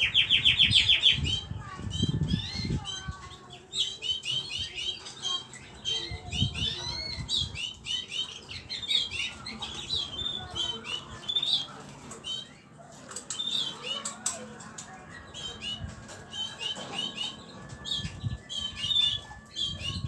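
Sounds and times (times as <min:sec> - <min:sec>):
pet birds chirping: 0:00.0 - 0:20.0.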